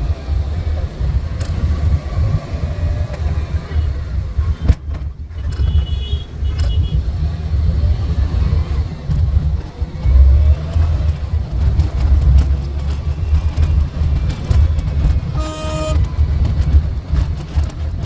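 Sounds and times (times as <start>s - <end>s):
van engine and road noise: 0.0s - 18.0s.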